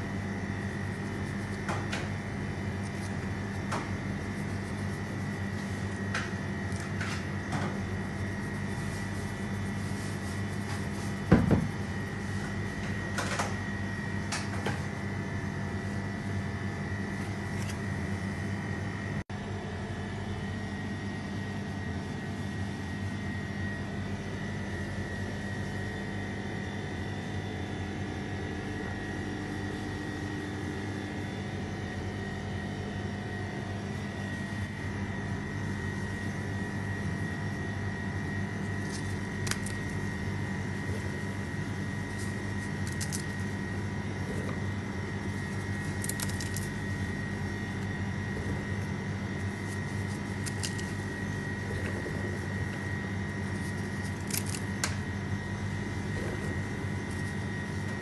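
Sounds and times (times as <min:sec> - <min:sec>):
kitchen equipment humming: 0:00.0 - 0:58.0.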